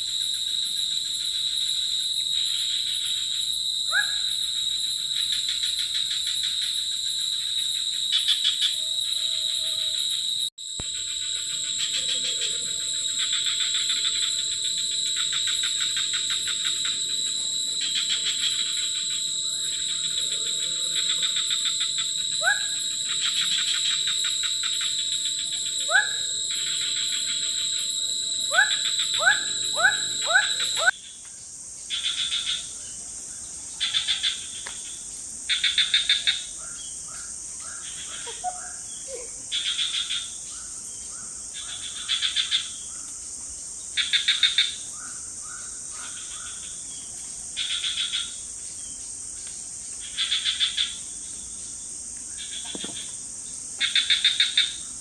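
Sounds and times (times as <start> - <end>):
cricket-like insect calling: 0.0 - 55.0
dense insect chorus: 0.0 - 55.0
high insect drone: 0.0 - 55.0.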